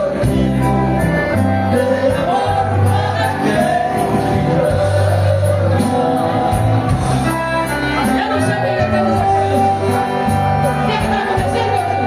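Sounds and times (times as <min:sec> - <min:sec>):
accordion: 0:00.0 - 0:12.0
bass: 0:00.0 - 0:12.0.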